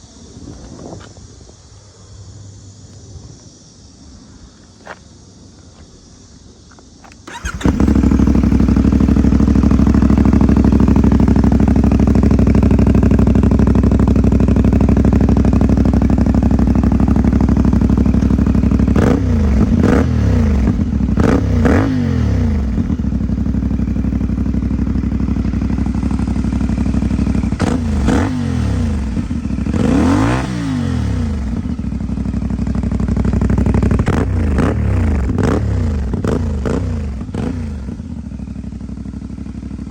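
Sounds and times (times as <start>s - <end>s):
motorcycle engine idling and revving: 4.8s - 39.9s.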